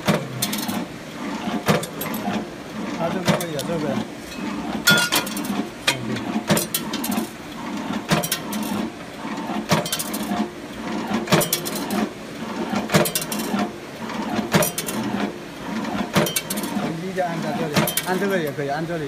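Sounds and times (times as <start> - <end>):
machine motors whirring: 0.0 - 19.0.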